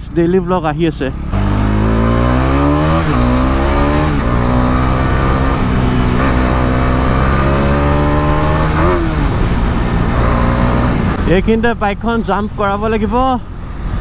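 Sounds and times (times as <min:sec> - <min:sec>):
motorcycle engine at full throttle: 0:00.0 - 0:14.0.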